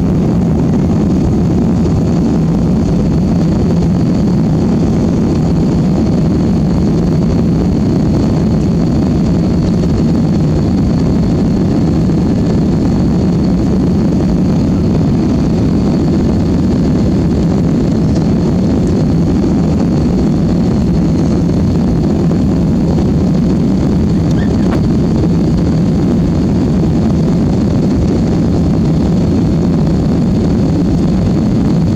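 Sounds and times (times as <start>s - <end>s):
jet engines rumbling: 0.0s - 31.9s.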